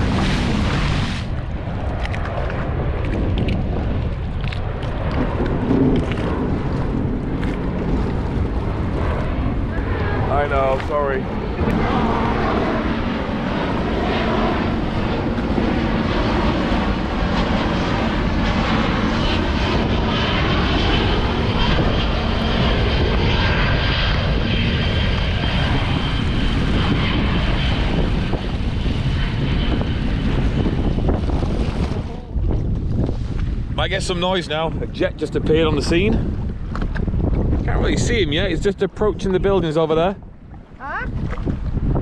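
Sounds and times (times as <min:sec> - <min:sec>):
jet aircraft flying overhead: 0:00.0 - 0:42.0.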